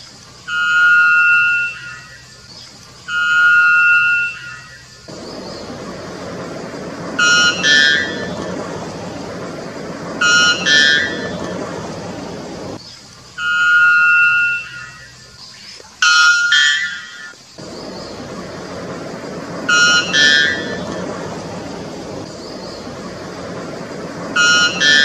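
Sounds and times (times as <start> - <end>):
steady hiss: 0.0 - 25.0
bird calling clear notes: 0.4 - 12.8, 13.4 - 25.0.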